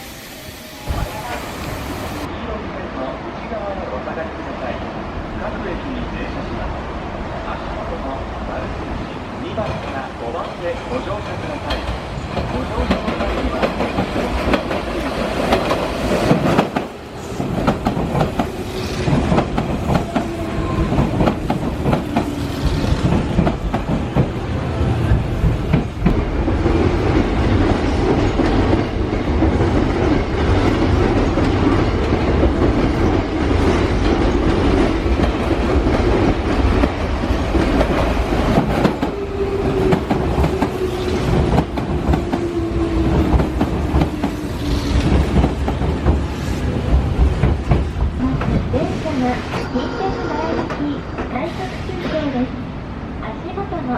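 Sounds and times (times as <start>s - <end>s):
electric train running on rails: 0.0s - 53.9s.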